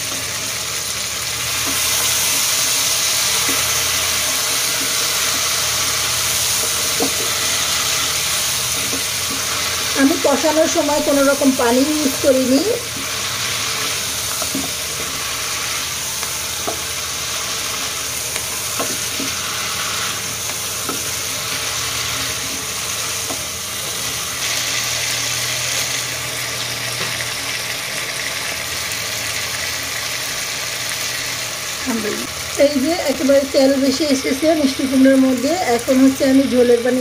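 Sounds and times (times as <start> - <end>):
food sizzling in oil: 0.0 - 37.0.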